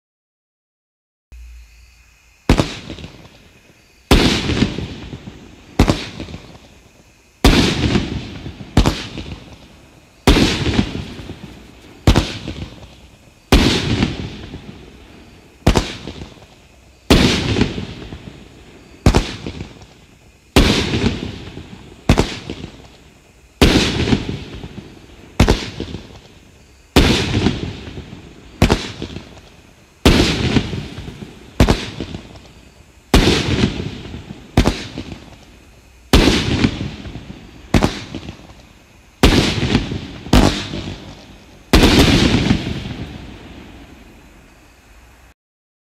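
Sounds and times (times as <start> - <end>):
firework bangs: 2.4 - 44.7.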